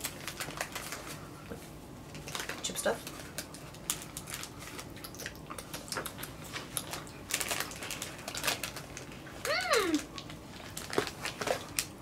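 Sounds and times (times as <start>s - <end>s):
plastic snack bag rustling: 0.0s - 1.3s, 2.1s - 12.0s.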